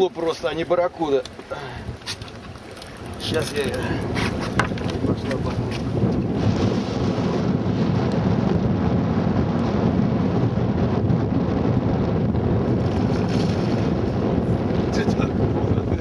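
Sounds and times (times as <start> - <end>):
water around a boat: 0.0 - 16.0
wind buffeting microphone: 0.0 - 16.0.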